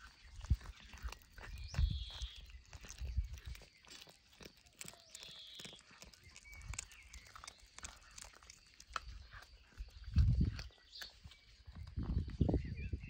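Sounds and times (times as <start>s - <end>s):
cat chewing raw fish: 0.0s - 12.0s.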